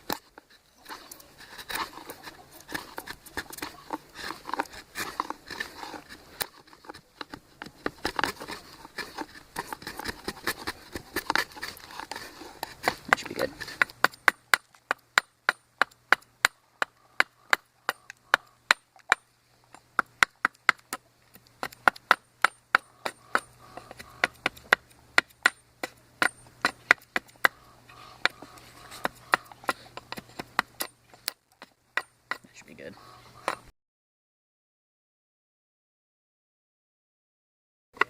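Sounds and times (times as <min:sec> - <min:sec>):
blade chopping wood: 0:00.0 - 0:32.7.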